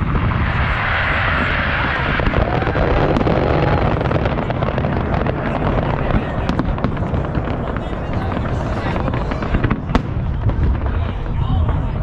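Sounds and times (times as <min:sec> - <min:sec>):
fireworks crackling and rumbling: 0:00.0 - 0:12.0.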